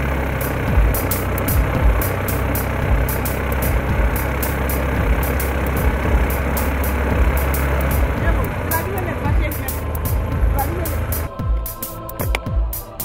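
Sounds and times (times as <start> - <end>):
propeller engine drone: 0.0 - 13.0
low thumps: 0.7 - 12.8.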